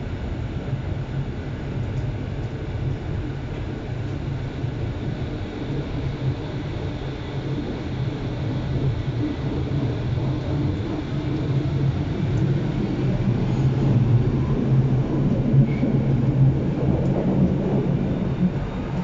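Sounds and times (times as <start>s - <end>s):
train interior hum: 0.0s - 19.0s
wheels rumbling on rails: 1.6s - 19.0s.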